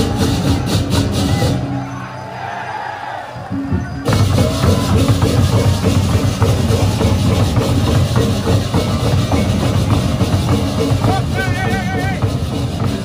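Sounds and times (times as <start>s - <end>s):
gamelan with drums: 0.0s - 1.8s, 3.5s - 13.0s.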